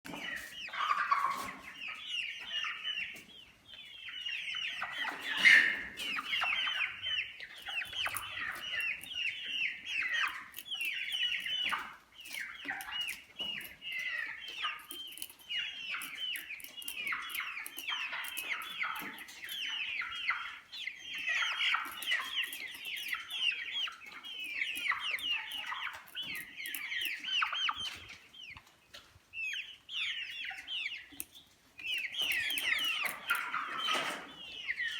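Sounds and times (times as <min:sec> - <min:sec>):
chickens cheeping: 0:00.1 - 0:34.9.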